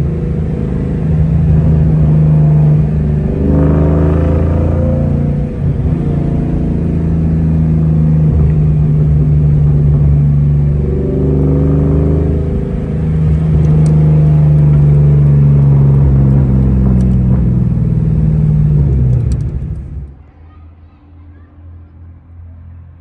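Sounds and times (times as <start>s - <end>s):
car engine from inside cabin: 0.0s - 20.2s.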